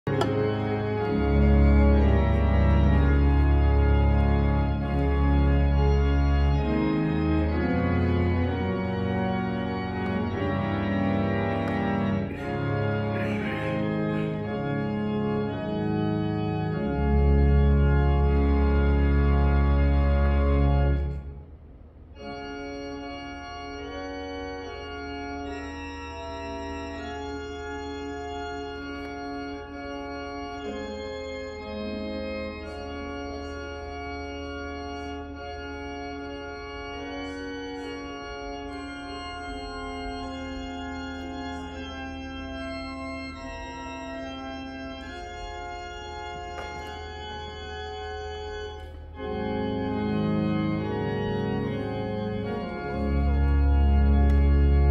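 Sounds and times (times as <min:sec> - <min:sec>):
church organ chords: 0:00.0 - 0:54.9.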